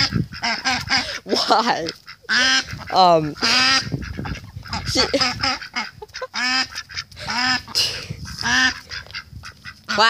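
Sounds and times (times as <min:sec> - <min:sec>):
duck quacking: 0:00.0 - 0:10.0.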